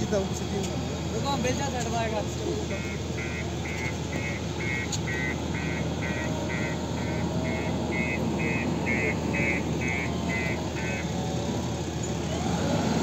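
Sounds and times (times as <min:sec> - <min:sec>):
diesel engine running: 0:00.0 - 0:13.0
reversing alarm beeping: 0:02.2 - 0:12.8.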